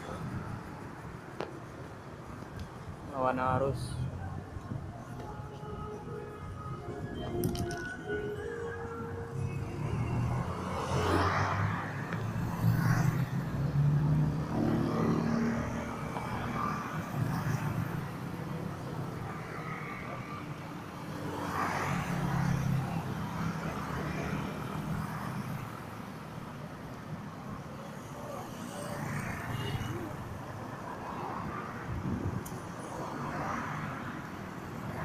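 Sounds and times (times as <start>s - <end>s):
car engines passing: 0.0s - 35.0s.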